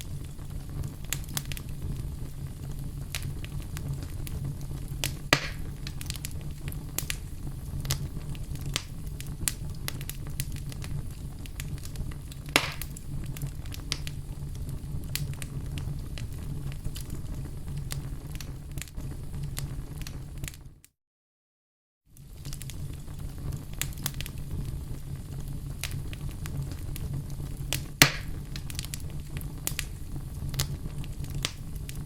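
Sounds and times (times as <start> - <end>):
loud fire pops: 0.0 - 20.6, 22.2 - 32.0
fire crackling in a fireplace: 0.0 - 20.9, 22.1 - 32.0.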